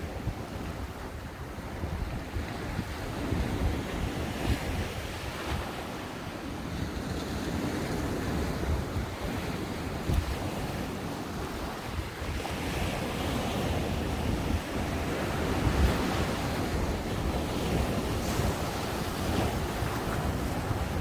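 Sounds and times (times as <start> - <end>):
ocean waves breaking on beach: 0.0 - 21.0
wind buffeting microphone: 0.0 - 21.0.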